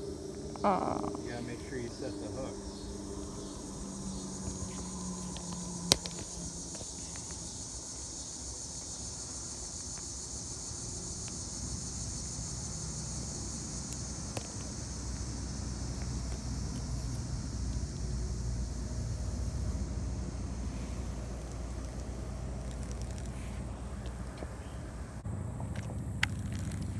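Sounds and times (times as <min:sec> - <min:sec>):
insects chirping: 0:00.0 - 0:26.9.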